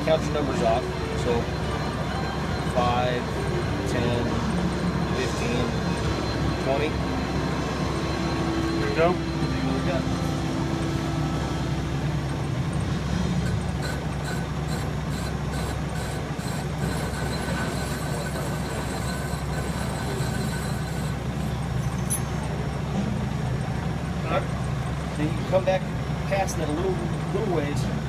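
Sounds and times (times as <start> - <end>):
metal lathe cutting pipe: 0.0 - 28.0.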